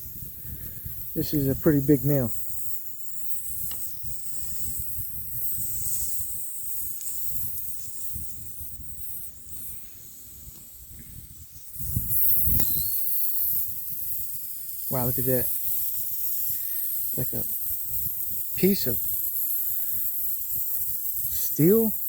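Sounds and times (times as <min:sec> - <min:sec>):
air hissing from tire: 0:00.0 - 0:22.0.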